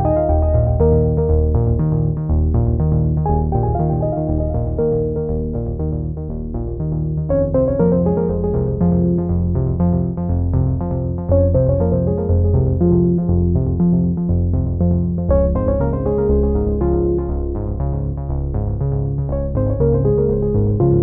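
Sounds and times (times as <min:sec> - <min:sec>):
synthesizer keyboard music: 0:00.0 - 0:21.0.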